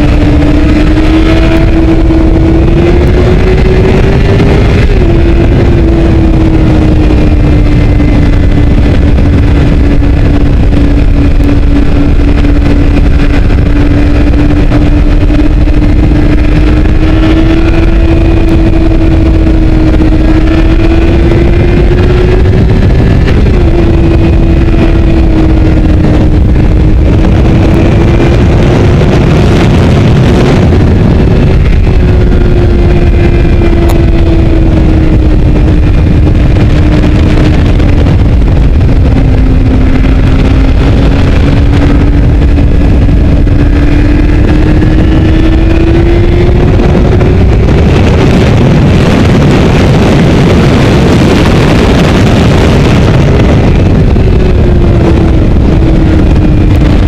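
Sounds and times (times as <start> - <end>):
motorcycle engine at high revs: 0.0 - 57.0
wind and road noise: 0.0 - 57.0.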